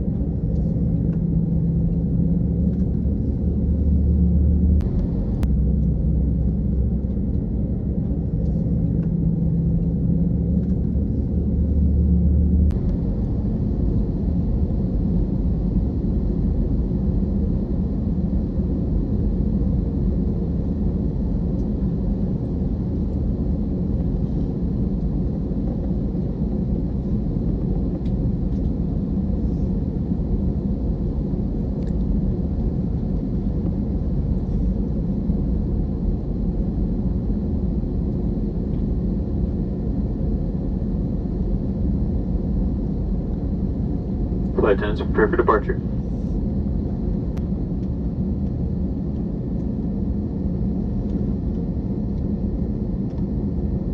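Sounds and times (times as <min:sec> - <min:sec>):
airliner cabin rumble: 0:00.0 - 0:53.9.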